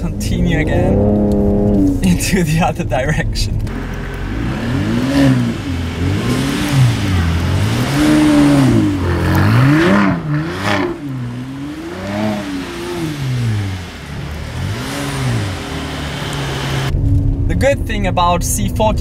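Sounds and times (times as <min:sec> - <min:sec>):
car engine revving: 0:00.0 - 0:18.8
tyres spinning in snow: 0:00.2 - 0:16.9.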